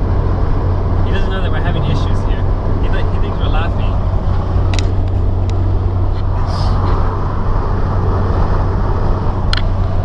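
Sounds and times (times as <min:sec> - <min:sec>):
car engine and road drone: 0:00.0 - 0:10.0.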